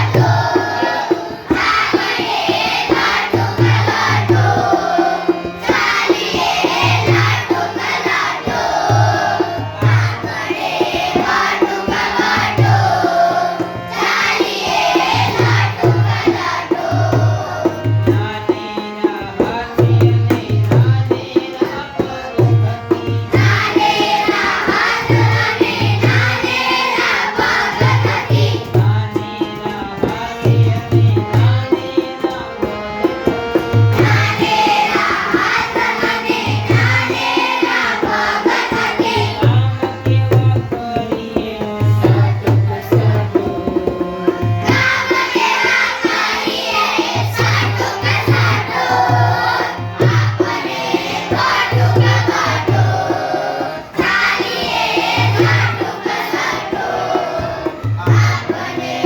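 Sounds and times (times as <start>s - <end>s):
children's song singing: 0.0s - 59.0s
tabla and drum beat: 0.0s - 59.0s.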